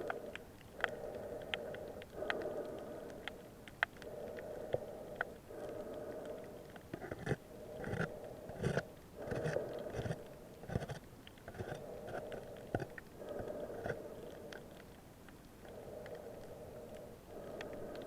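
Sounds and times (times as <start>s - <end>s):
dull hum: 0.0s - 18.0s
muffled clicks and crunches: 0.0s - 18.0s.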